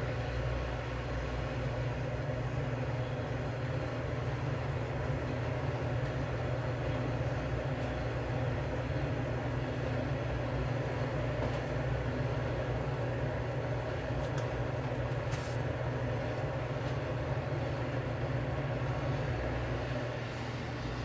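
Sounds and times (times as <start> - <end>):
gas burner rumbling: 0.0 - 21.0.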